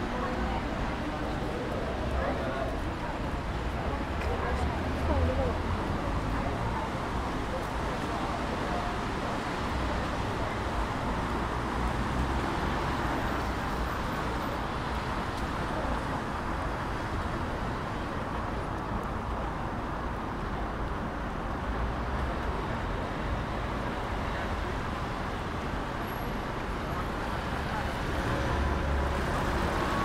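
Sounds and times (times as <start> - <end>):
road traffic rushing: 0.0 - 18.6, 20.0 - 30.0.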